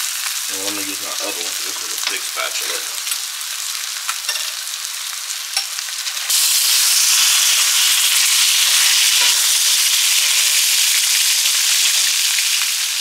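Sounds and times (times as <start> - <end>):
fish sizzling in butter: 0.0 - 13.0.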